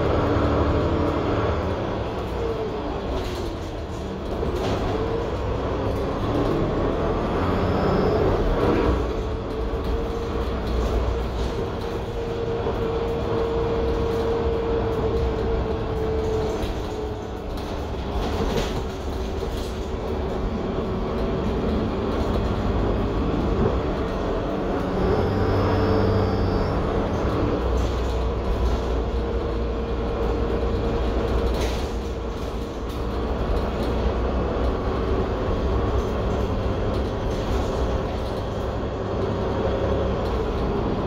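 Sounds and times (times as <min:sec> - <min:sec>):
bus diesel engine rumbling: 0:00.0 - 0:41.0.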